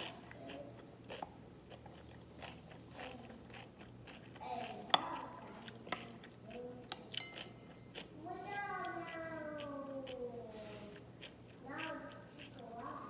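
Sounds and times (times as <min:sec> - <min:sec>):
chewing noodles: 0:00.0 - 0:13.0.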